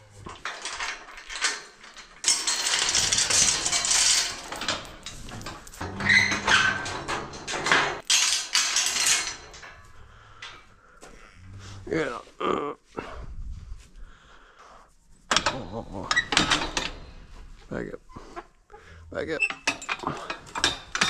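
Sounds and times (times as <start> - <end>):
steel gates rattling and clanging: 0.0 - 12.1, 15.3 - 18.4, 19.2 - 21.0.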